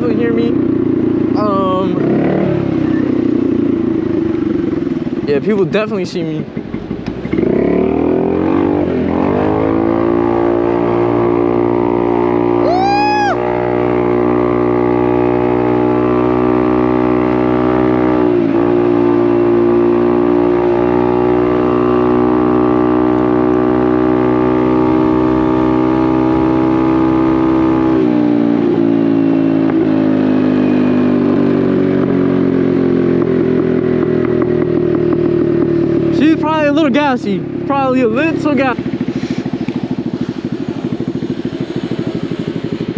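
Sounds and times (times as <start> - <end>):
motorcycle engine cruising: 0.0 - 42.9.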